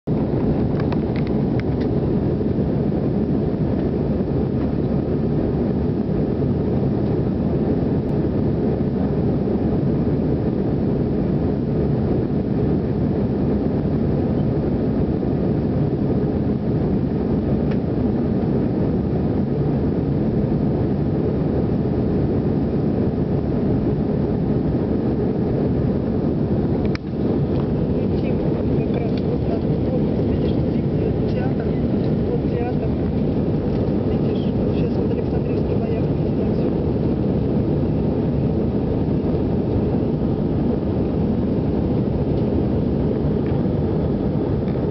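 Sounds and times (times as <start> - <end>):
airliner cabin engine rush: 0.1 - 44.9.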